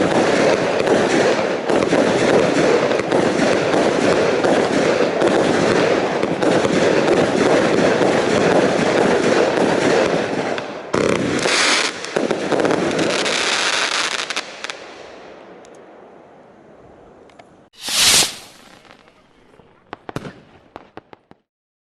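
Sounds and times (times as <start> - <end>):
firework barrage bangs and crackle: 0.0 - 15.2, 17.8 - 21.5.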